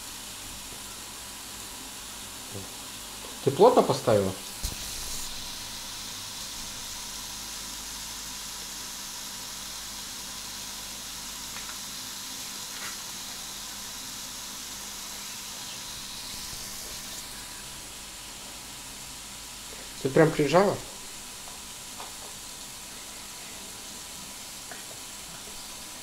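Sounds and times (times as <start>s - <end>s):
meat sizzling in contact grill: 0.0s - 26.0s.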